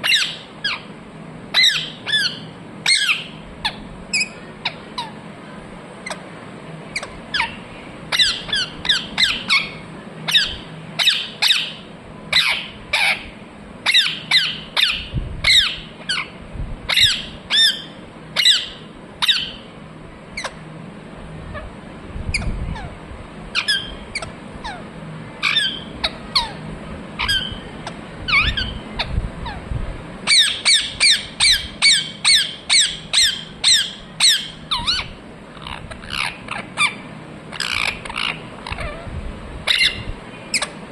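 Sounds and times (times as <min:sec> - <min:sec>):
parrot squawking: 0:00.0 - 0:00.9, 0:01.5 - 0:05.2, 0:06.9 - 0:19.7, 0:20.4 - 0:20.6, 0:22.3 - 0:26.6, 0:27.2 - 0:29.6, 0:30.3 - 0:40.8.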